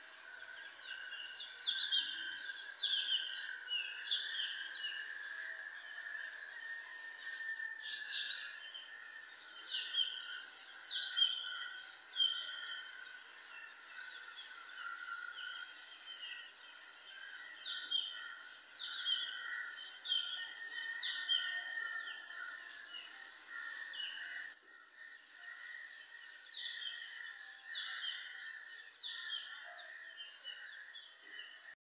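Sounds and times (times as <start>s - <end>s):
birds chirping: 0.5s - 31.8s.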